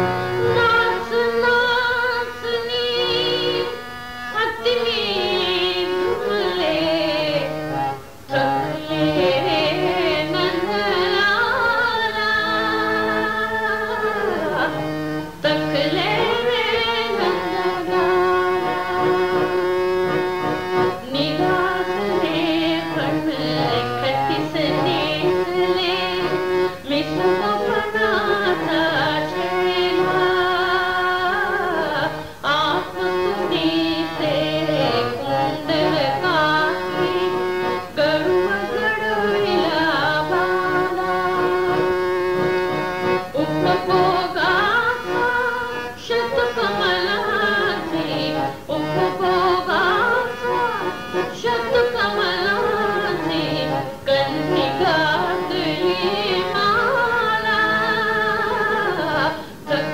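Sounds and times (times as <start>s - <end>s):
indian classical melody with drone: 0.0s - 59.9s.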